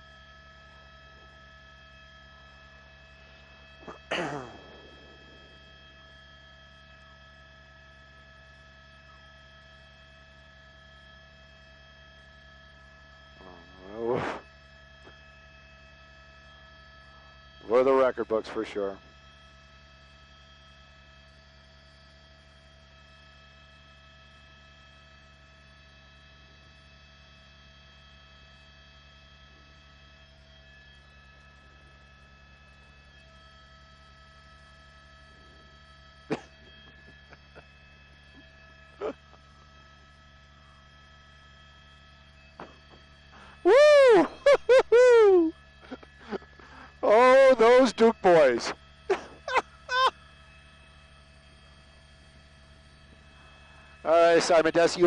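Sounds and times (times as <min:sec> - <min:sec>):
electrical mains hum: 0:00.0 - 0:55.0
faint high whining tones: 0:00.0 - 0:55.0.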